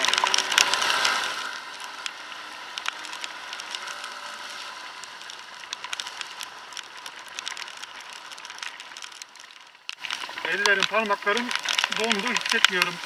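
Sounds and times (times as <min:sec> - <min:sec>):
raindrops ticking on camera: 0:00.0 - 0:13.0
wind and wet road hiss: 0:00.0 - 0:13.0.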